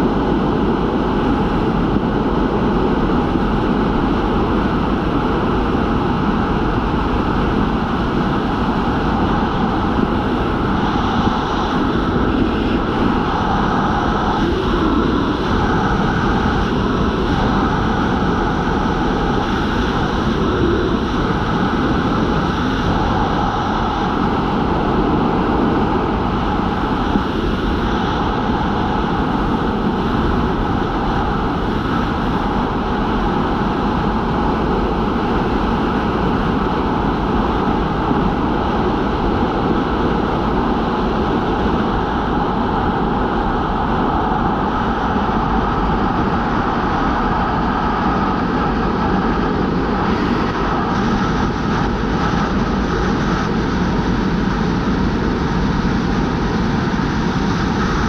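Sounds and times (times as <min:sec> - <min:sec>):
airplane engines droning: 0:00.0 - 0:58.0.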